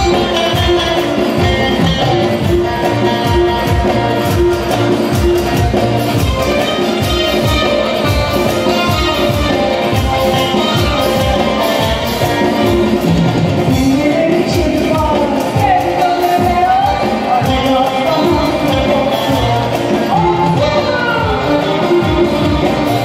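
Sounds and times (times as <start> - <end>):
keyboard dance music: 0.0 - 23.0.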